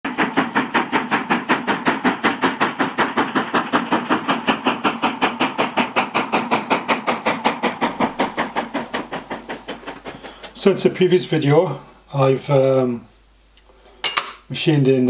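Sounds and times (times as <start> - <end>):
steam locomotive chuffing: 0.1 - 13.1.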